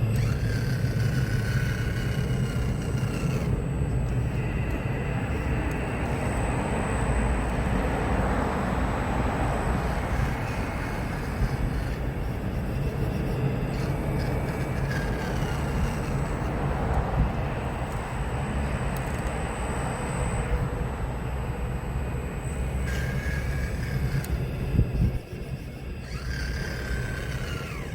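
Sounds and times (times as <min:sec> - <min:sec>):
model excavator running: 0:00.0 - 0:27.9
thin high whine: 0:00.0 - 0:27.9.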